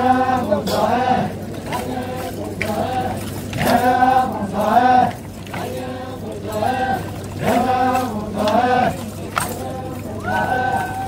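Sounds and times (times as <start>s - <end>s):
group of voices chanting: 0.0s - 11.0s.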